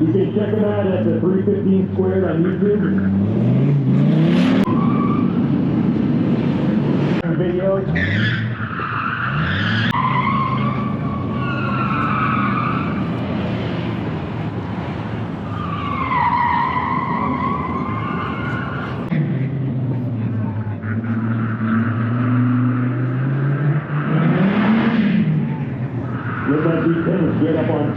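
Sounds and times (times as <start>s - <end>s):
tires squealing: 0.0s - 27.9s.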